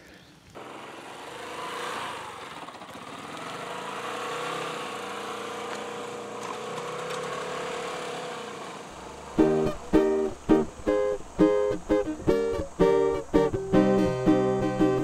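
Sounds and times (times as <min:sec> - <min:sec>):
motorcycle engines running: 0:00.6 - 0:13.6.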